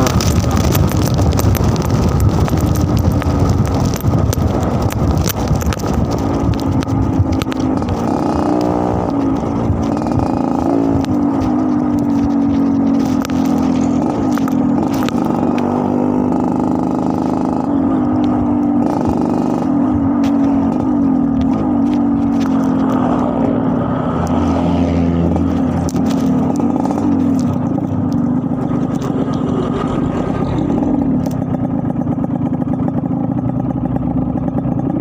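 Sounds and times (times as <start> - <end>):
two-stroke motorcycle engine running: 0.0 - 35.0.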